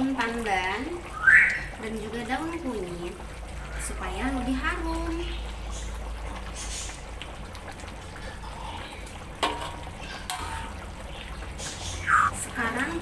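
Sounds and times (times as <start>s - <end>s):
curry bubbling in a wok: 0.0s - 13.0s.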